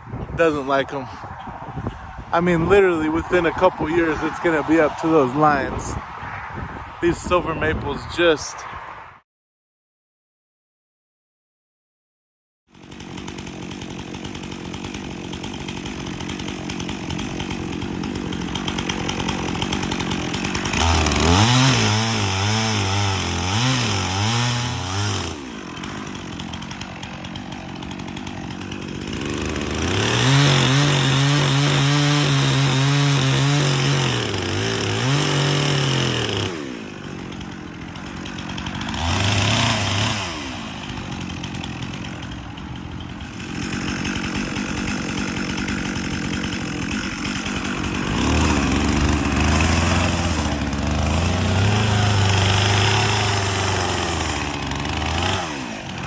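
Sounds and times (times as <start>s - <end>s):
chainsaw idling and revving: 0.4s - 6.0s, 12.7s - 56.0s
chainsaw cutting wood: 0.4s - 8.5s, 12.7s - 56.0s.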